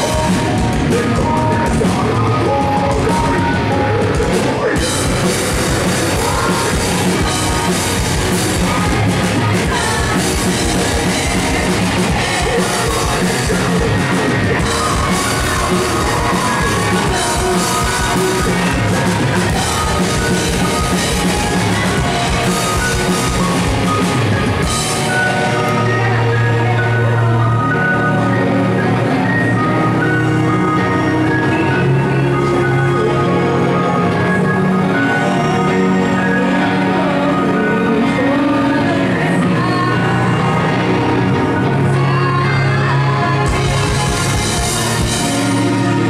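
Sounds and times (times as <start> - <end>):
drum kit: 0.0 - 46.0
live rock band playing: 0.0 - 46.0
person singing: 0.0 - 46.0.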